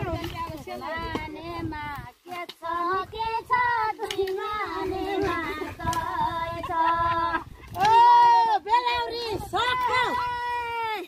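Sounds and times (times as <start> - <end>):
woman singing folk song: 0.0 - 10.8.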